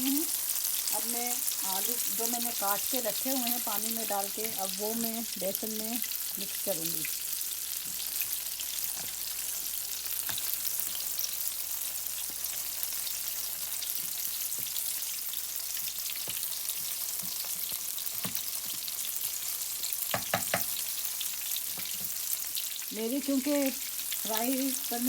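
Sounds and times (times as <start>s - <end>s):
deep-frying sizzle in hot oil: 0.0s - 25.0s.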